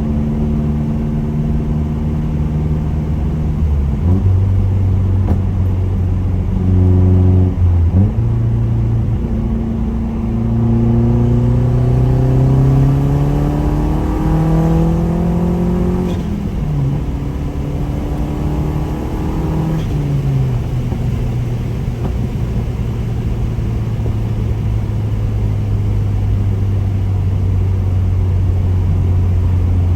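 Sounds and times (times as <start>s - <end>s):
turbocharged car engine pulling: 0.0s - 29.9s.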